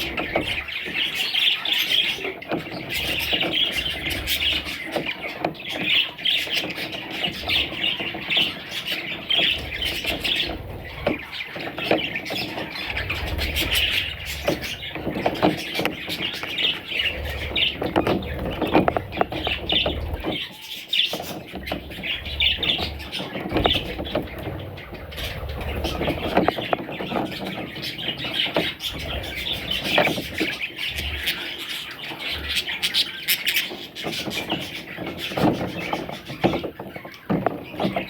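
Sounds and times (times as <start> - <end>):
baby budgerigars squawking: 0.0 - 38.0.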